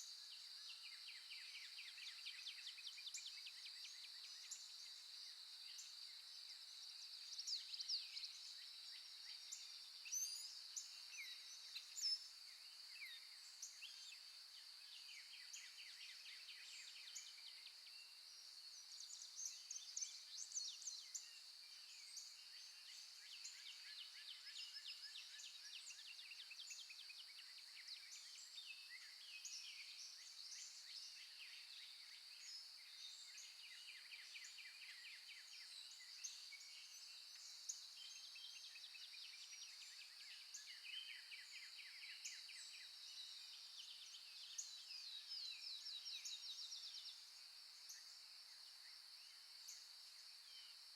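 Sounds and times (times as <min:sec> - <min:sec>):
wild birds chirping and trilling: 0:00.0 - 0:50.9.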